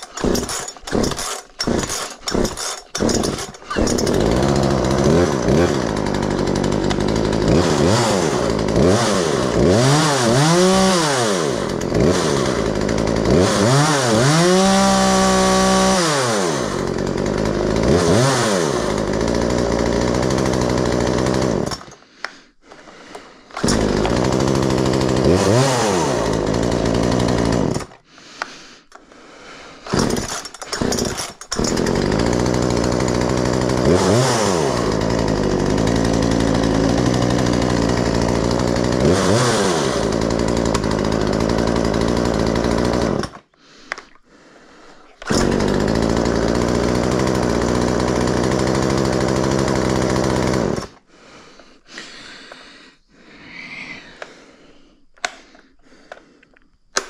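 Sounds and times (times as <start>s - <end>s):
chainsaw engine revving: 0.0s - 22.0s, 23.5s - 28.0s, 29.8s - 43.5s, 45.2s - 51.1s.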